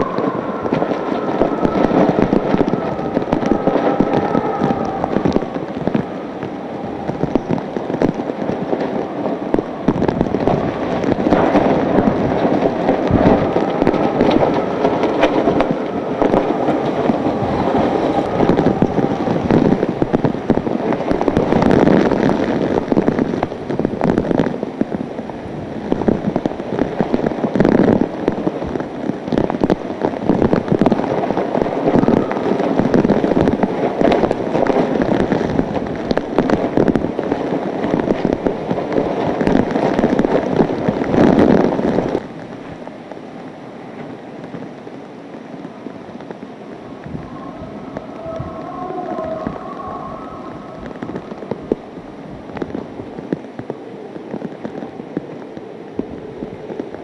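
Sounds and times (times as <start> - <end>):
driving rain: 0.0 - 57.0
strong wind buffeting microphone: 0.0 - 57.0.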